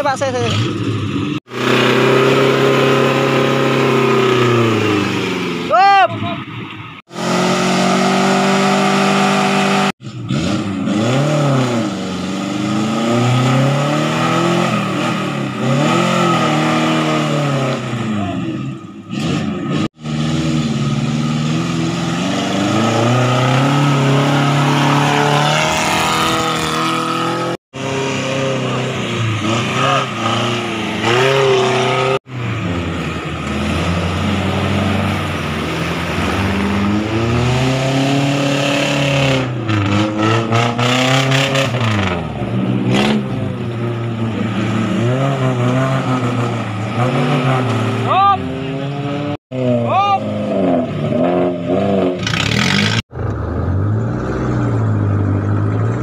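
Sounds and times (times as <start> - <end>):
off-road vehicle engine revving: 0.0 - 5.7, 7.0 - 56.0.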